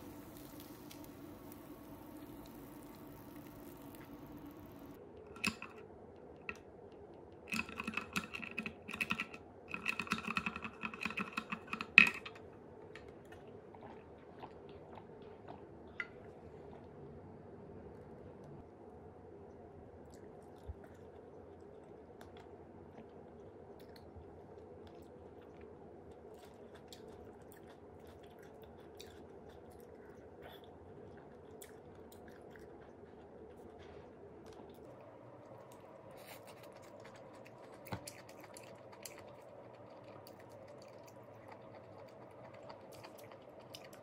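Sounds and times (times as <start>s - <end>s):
chewing and crunching salad: 0.0s - 5.8s, 6.4s - 18.6s, 19.9s - 44.0s
faint steady hum: 0.0s - 44.0s.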